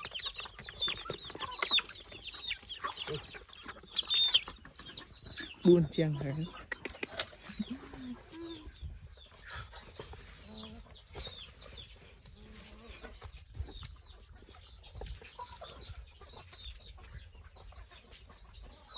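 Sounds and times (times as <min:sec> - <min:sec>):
chickens peeping and clucking: 0:00.0 - 0:18.9.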